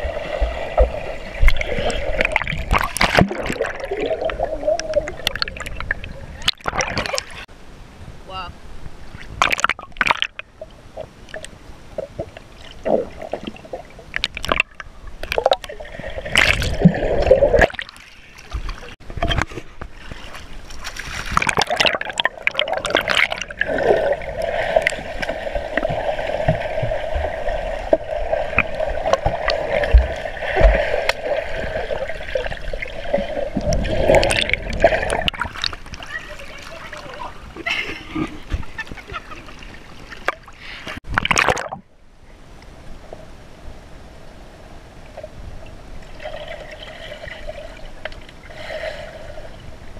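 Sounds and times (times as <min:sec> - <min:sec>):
underwater splashing and bubbling: 0:00.0 - 0:07.5, 0:09.1 - 0:38.8, 0:39.4 - 0:42.0, 0:45.1 - 0:49.9.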